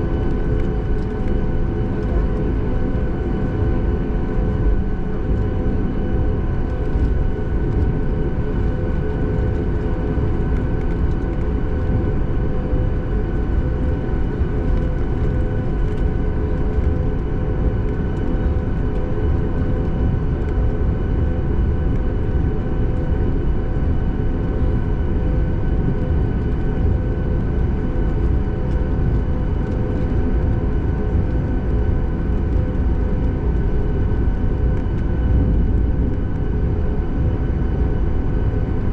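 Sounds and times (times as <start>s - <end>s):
aircraft cabin low rumble: 0.0s - 38.9s
idling jet engines whining: 0.0s - 38.9s.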